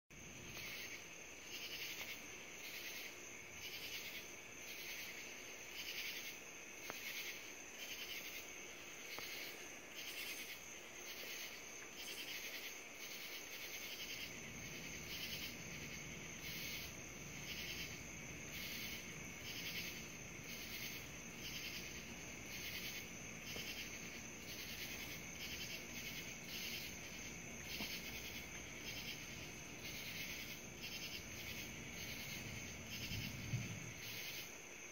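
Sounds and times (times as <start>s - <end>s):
steady high insect trill: 0.1s - 34.9s
insects chirring: 0.2s - 34.9s.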